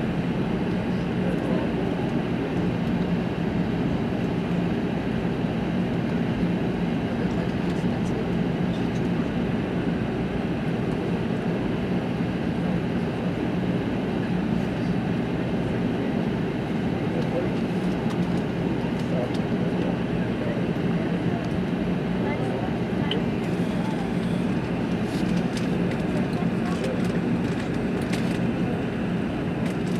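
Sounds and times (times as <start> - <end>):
aircraft cabin engine roar: 0.0 - 29.9.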